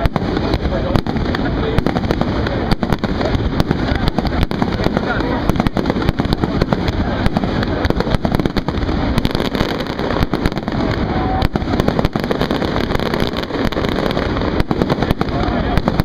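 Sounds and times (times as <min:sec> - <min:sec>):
fireworks bangs: 0:00.0 - 0:16.0
fireworks bursting and crackling: 0:00.0 - 0:16.0.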